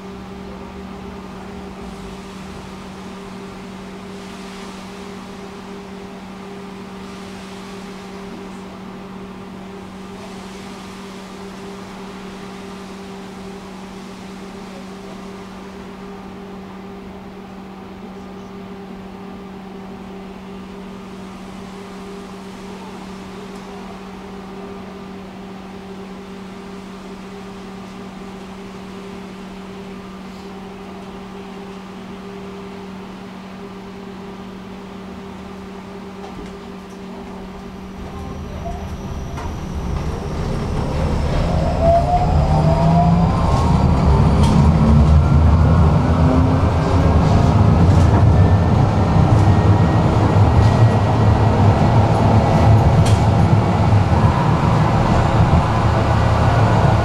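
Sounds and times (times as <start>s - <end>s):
tram electrical hum: 0.0s - 57.0s
tram low rumble: 0.0s - 57.0s.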